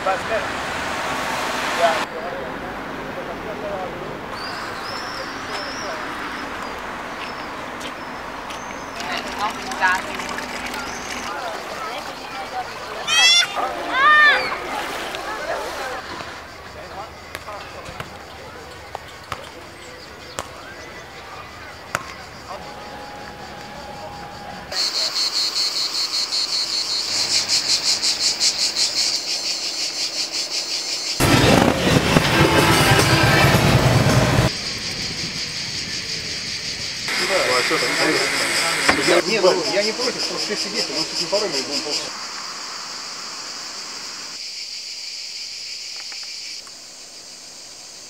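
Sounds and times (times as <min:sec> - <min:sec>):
cicadas singing: 0:04.3 - 0:31.7, 0:32.4 - 0:48.0.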